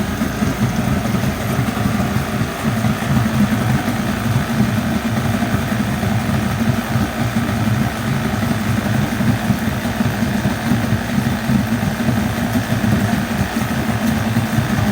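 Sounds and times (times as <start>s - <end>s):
outboard motor running: 0.0s - 14.9s.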